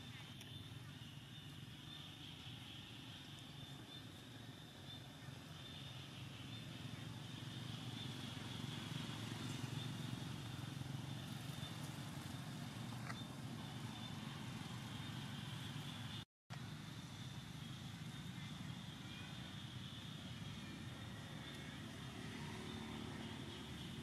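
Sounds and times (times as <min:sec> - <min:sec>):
low rumble of distant traffic: 0:00.0 - 0:24.0.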